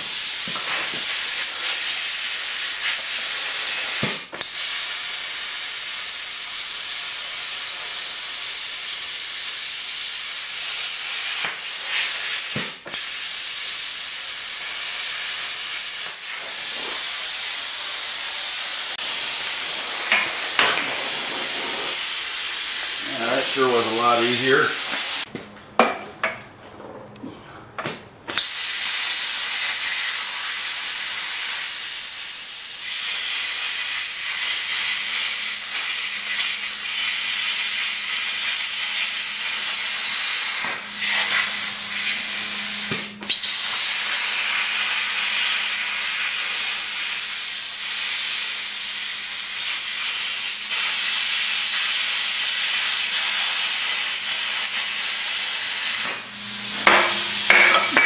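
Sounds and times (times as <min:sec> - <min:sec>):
plasma cutter hissing: 0:00.0 - 0:25.3, 0:28.3 - 0:58.0.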